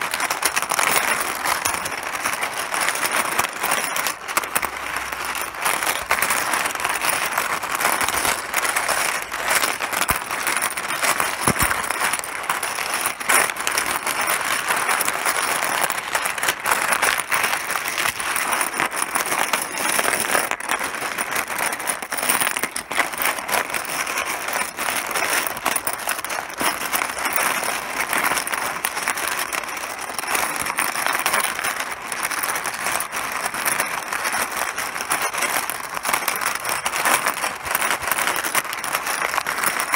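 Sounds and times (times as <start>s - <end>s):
mahjong tiles clattering: 0.0s - 39.9s.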